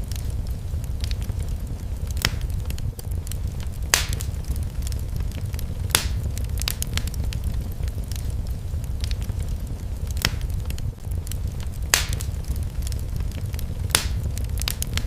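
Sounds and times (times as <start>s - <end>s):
fire crackling: 0.0s - 15.0s
loud fire pops: 0.0s - 15.0s.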